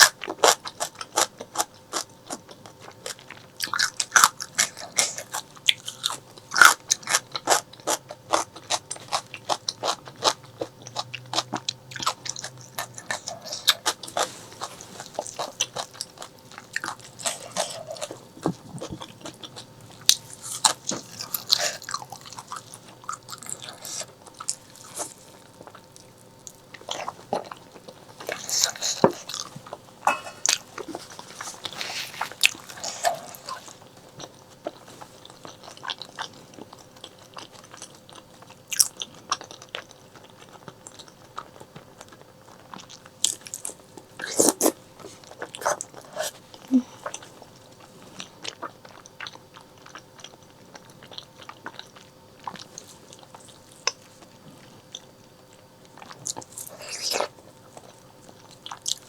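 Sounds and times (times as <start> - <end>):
chewing and wet smacking: 0.0 - 59.0.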